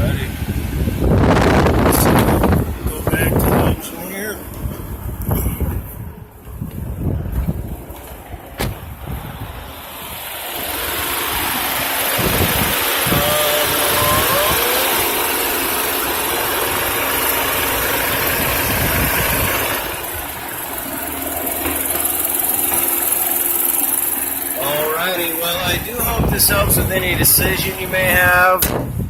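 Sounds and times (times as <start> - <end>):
car engine idling: 0.0 - 29.0
steady rushing noise: 0.0 - 29.0.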